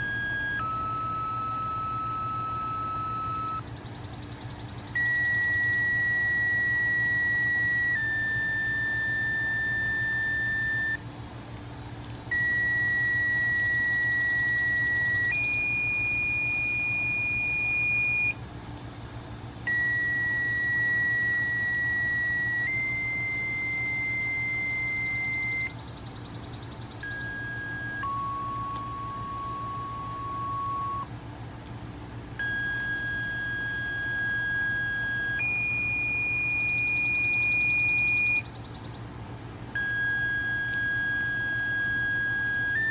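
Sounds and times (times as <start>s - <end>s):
steady electronic tones: 0.0s - 11.0s, 12.3s - 18.4s, 19.6s - 31.1s, 32.4s - 39.1s, 39.8s - 42.9s.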